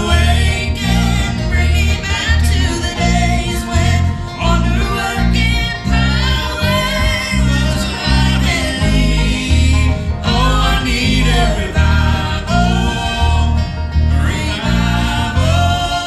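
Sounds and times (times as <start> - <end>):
low bass line: 0.0 - 16.0
plucked guitar: 0.0 - 16.0
voices singing gospel: 0.0 - 16.0.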